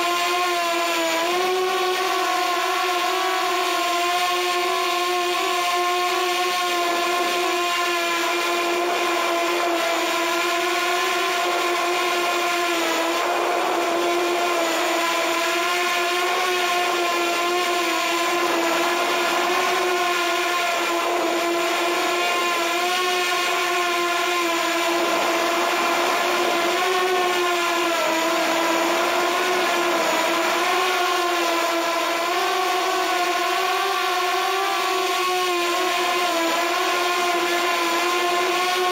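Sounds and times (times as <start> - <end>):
drone motors and propellers whining: 0.0 - 38.9.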